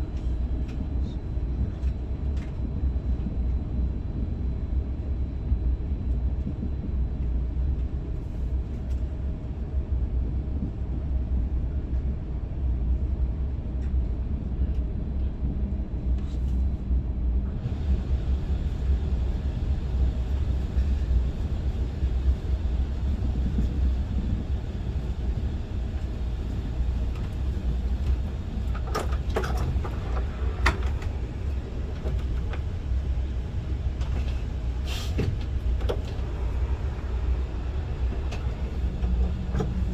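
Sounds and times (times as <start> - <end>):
train cabin rumble: 0.0 - 39.9.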